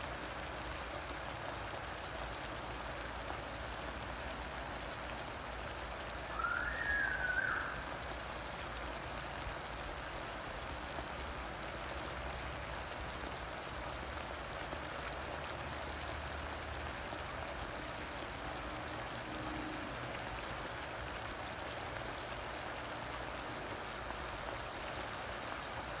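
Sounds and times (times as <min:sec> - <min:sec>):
chicken sizzling in sauce: 0:00.0 - 0:26.0.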